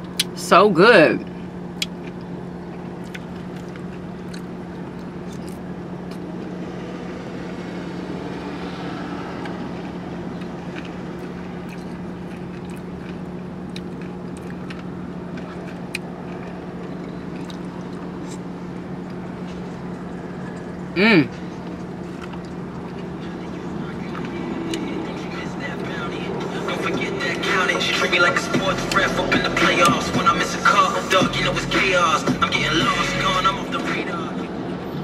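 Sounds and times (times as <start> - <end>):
car engine idling: 0.0 - 35.0
quiet eating sounds: 1.3 - 6.5, 8.0 - 32.7.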